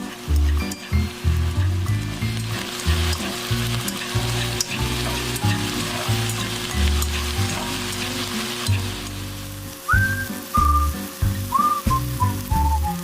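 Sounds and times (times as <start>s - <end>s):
background music: 0.0s - 13.0s
vegetables sizzling in frying pan: 0.0s - 13.0s.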